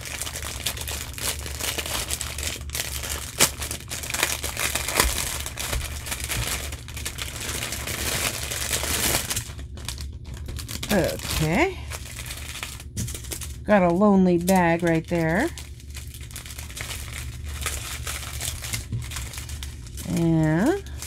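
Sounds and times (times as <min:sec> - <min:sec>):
plastic wrapper crinkling: 0:00.0 - 0:21.0.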